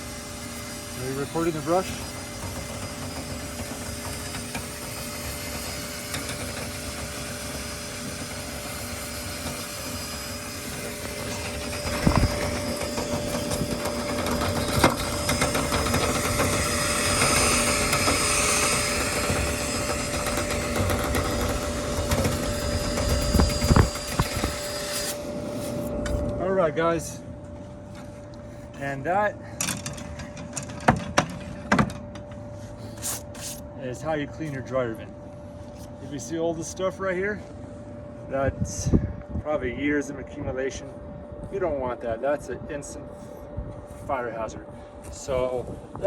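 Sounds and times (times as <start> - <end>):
power drill motor whine: 0.0 - 46.0.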